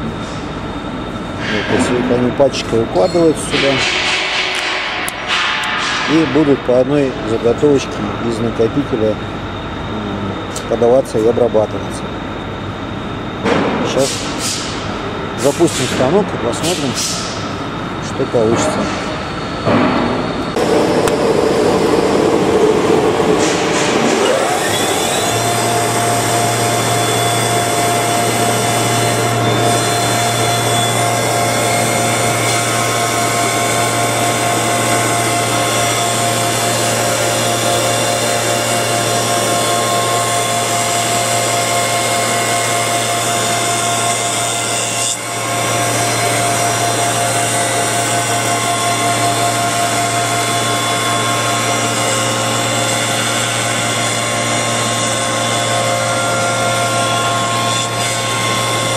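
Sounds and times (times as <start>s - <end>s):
milling machine motors whining: 0.0s - 58.9s
cutters milling wooden slats: 1.4s - 9.1s, 13.4s - 58.9s.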